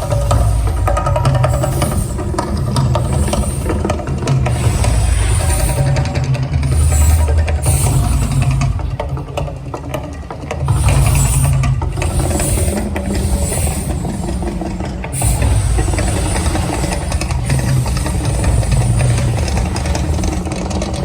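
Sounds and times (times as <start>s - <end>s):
hissing: 0.0s - 9.2s, 10.5s - 21.0s
deep rumble: 0.0s - 9.7s, 10.6s - 21.0s.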